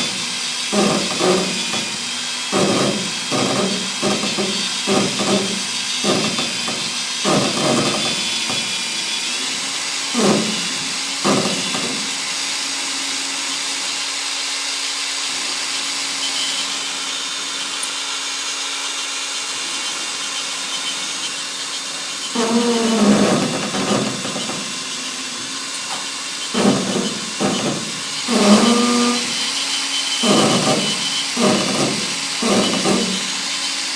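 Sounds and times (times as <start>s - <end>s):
drill chuck rattling: 0.0s - 14.2s, 14.9s - 33.9s
cordless drill running: 0.0s - 33.9s.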